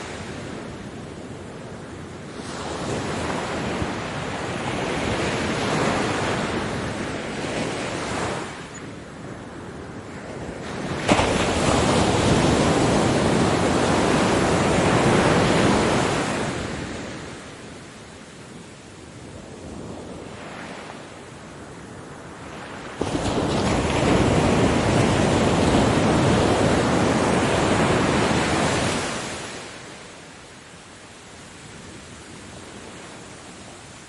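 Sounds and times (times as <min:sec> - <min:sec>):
ocean waves breaking on beach: 0:00.0 - 0:34.0.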